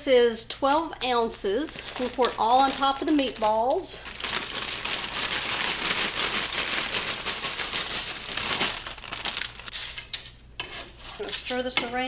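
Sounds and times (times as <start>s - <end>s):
dry noodles rattling into skillet: 1.8s - 12.0s.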